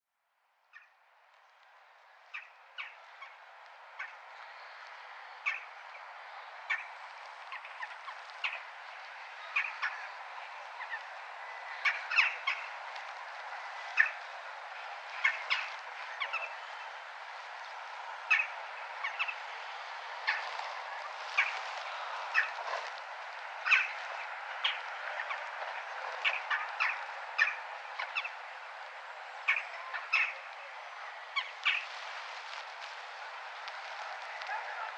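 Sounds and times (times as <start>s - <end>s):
town background noise: 0.1s - 34.9s.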